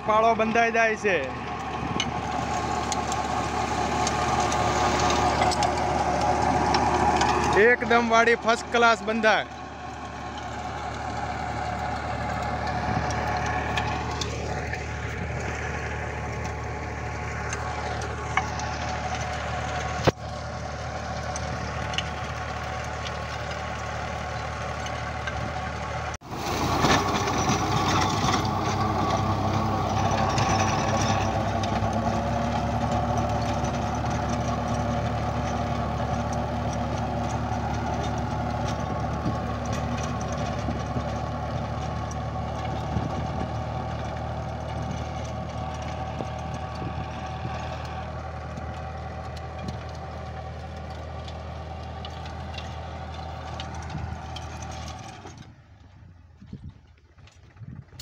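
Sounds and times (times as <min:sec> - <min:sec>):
rotavator working soil: 0:00.0 - 0:58.0
tractor engine running: 0:00.0 - 0:58.0.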